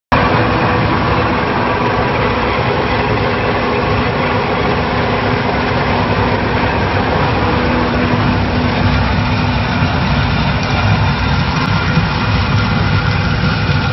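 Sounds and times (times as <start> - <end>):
constant mechanical hum: 0.1 - 13.9
roller crusher rumbling: 0.1 - 13.9.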